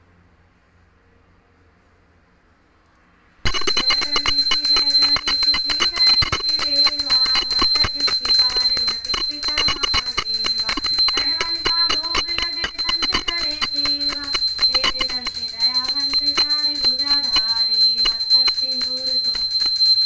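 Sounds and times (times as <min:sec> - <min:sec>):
hand bell ringing rapidly: 0:03.5 - 0:20.0.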